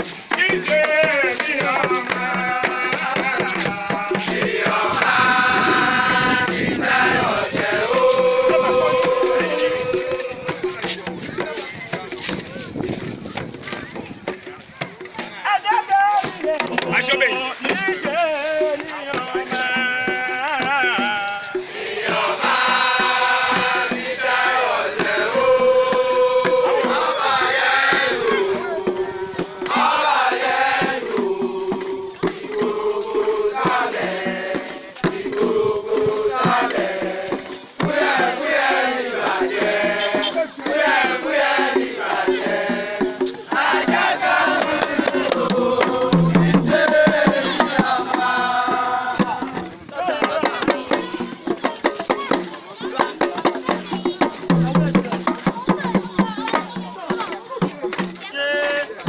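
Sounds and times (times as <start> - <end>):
men chanting and singing: 0.0 - 59.0
steady drum beat: 0.0 - 59.0.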